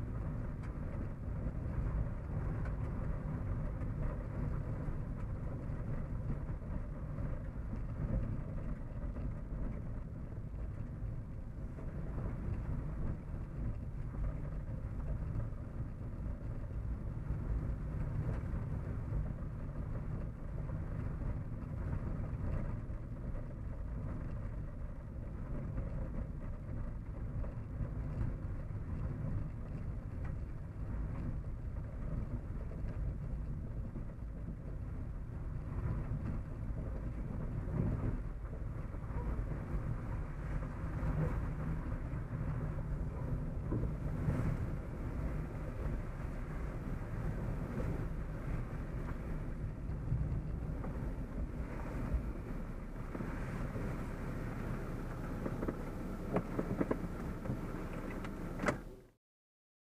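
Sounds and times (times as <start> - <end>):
car road noise from inside: 0.0 - 59.1.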